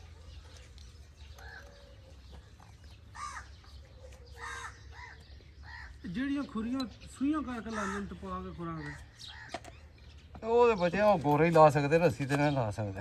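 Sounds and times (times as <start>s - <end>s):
harsh bird calls: 0.0s - 13.0s.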